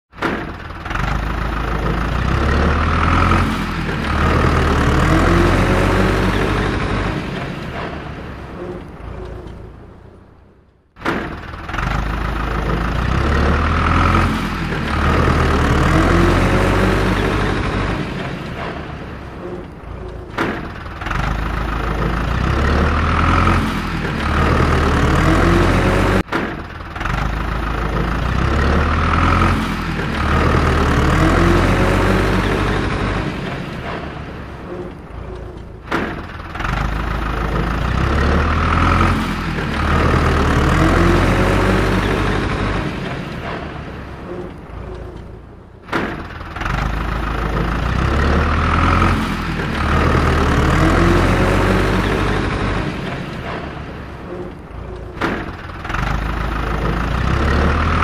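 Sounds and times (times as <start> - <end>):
heavy vehicle engine revving: 0.1 - 58.0.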